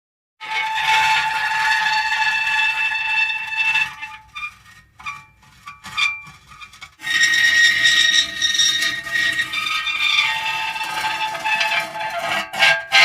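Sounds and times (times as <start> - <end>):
high-pitched metal creaking: 0.4 - 13.0.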